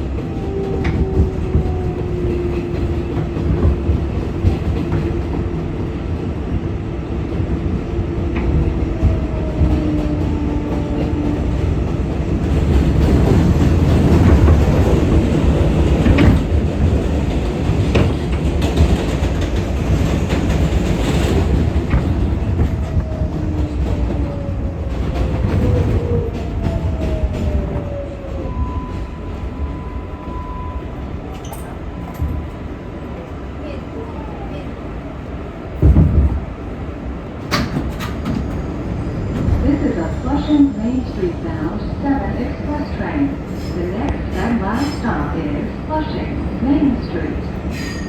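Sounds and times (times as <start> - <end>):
subway car rumble: 0.0 - 48.0.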